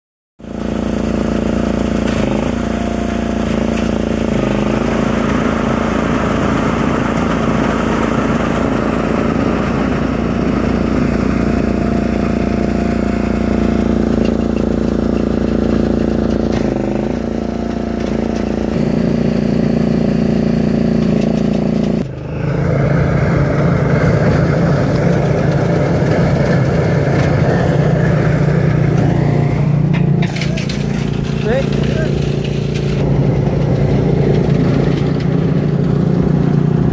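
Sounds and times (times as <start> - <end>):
baler engine running: 0.4 - 36.9.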